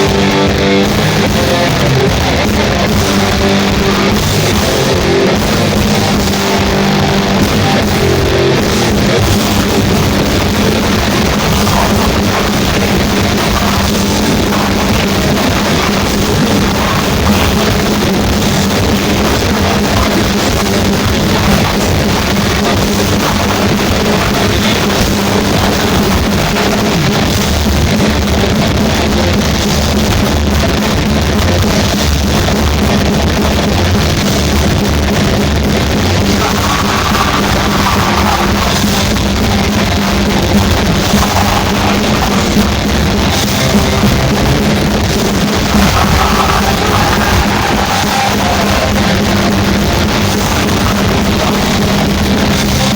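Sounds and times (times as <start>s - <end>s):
heavy metal band playing live: 0.0s - 52.9s.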